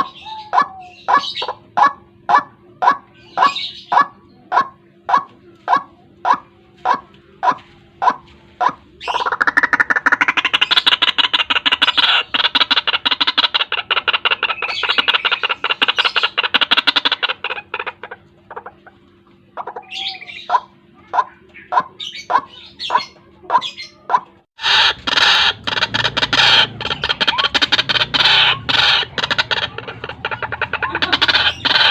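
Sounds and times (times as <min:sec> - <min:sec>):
waterhen calling: 0:00.0 - 0:19.0, 0:19.6 - 0:31.9.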